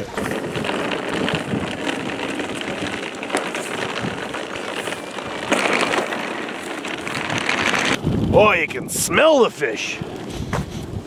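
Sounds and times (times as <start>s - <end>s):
cart wheels rattling on concrete: 0.0s - 11.0s.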